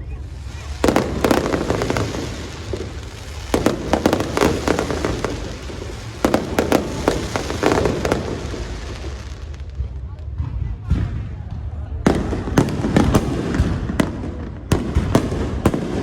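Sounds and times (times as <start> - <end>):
fireworks bangs and crackles: 0.0 - 16.0
steady low rumble: 0.0 - 16.0.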